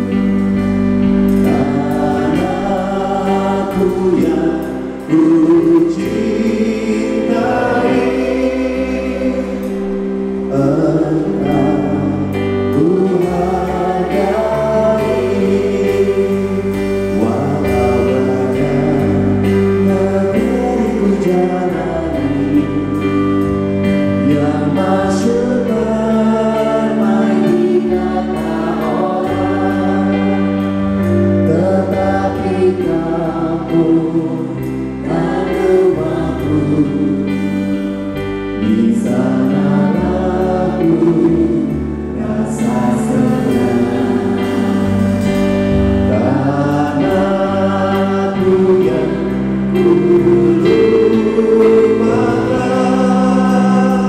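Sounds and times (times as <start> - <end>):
sustained bass notes: 0.0 - 54.0
voices singing together: 0.0 - 54.0.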